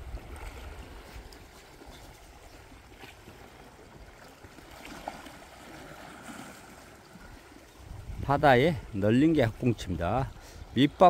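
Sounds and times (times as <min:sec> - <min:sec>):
waves lapping against rocks: 0:00.0 - 0:11.0.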